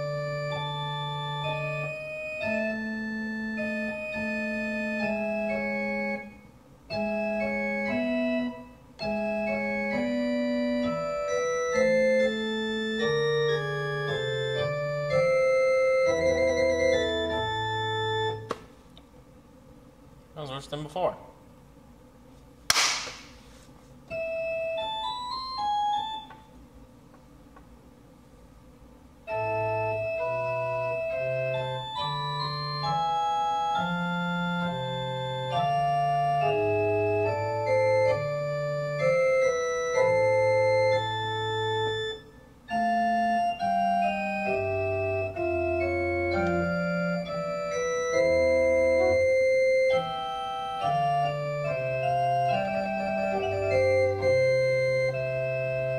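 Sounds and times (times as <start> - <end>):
organ playing chords: 0.0 - 18.6, 24.0 - 26.7, 28.6 - 55.9.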